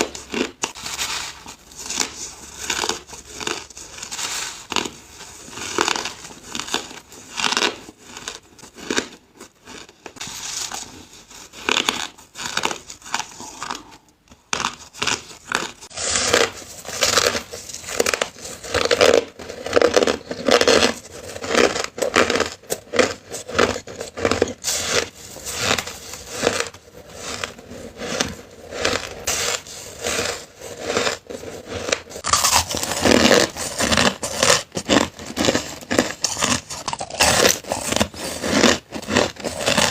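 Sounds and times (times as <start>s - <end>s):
chewing crushed ice: 0.0s - 39.9s.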